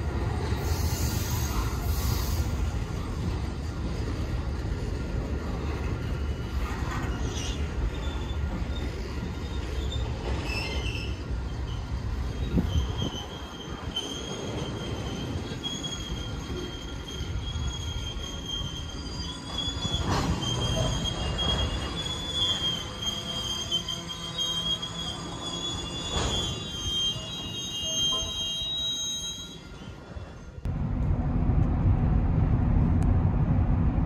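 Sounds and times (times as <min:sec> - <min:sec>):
wheels squealing on rails: 0:00.0 - 0:30.7
train rumbling past: 0:00.0 - 0:34.0.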